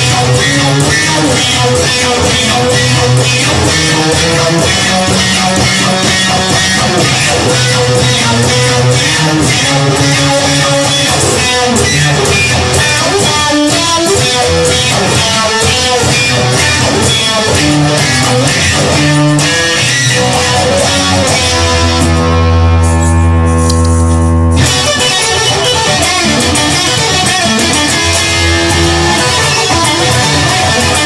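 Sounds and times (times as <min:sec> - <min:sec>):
guitar instrumental music: 0:00.0 - 0:31.0.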